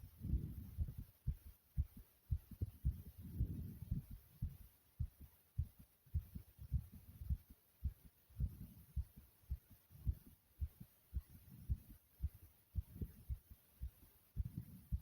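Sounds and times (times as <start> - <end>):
fast heartbeat thumps: 0.0 - 15.0.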